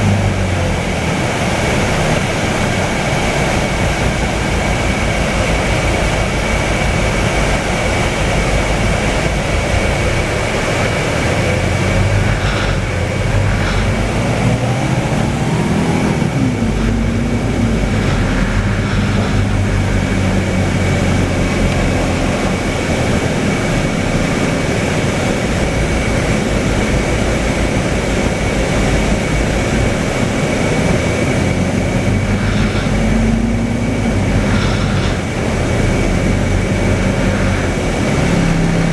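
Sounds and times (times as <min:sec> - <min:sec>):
bus diesel engine from inside: 0:00.0 - 0:38.9
steady high whine: 0:00.0 - 0:38.9.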